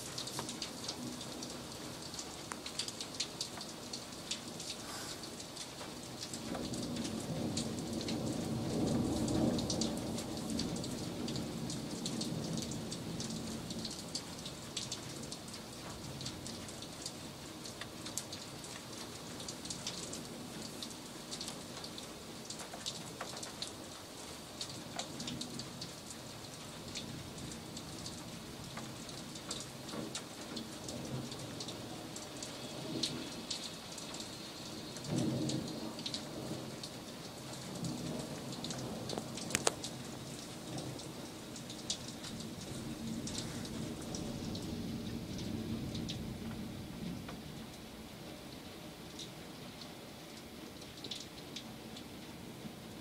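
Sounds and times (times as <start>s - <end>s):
rain drops tapping on hard surfaces: 0.0s - 53.0s.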